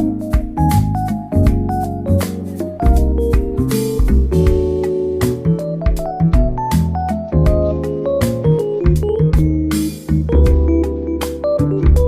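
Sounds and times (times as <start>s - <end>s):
keyboard-led instrumental music: 0.0s - 12.0s.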